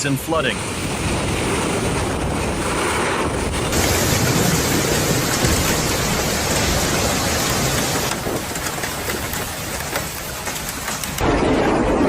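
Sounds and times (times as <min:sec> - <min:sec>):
heavy rain pouring: 0:00.0 - 0:12.0
wind: 0:00.0 - 0:12.0.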